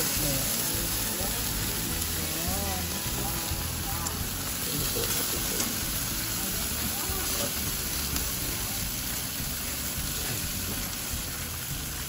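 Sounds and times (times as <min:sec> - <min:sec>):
chicken sizzling on a grill: 0:00.0 - 0:12.0
low rumble of gas flame: 0:00.0 - 0:12.0.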